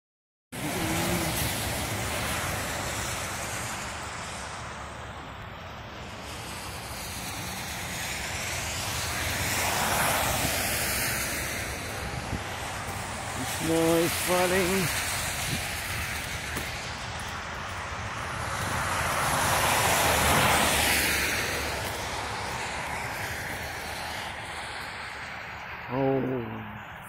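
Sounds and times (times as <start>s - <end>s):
road traffic: 0.5s - 27.0s
wind: 0.5s - 27.0s
vehicle passing by: 0.6s - 27.0s.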